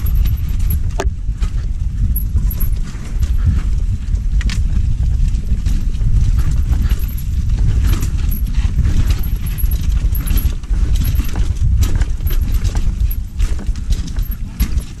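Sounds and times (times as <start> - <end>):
bike chain rattling and clicking: 0.0 - 15.0
wind and tyres rumbling: 0.0 - 15.0.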